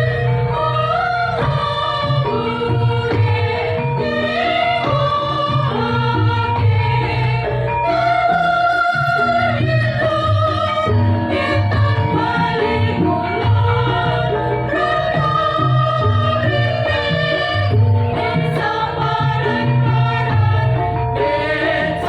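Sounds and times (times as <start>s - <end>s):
low rhythmic accompaniment: 0.0s - 22.0s
women's choir singing: 0.0s - 22.0s.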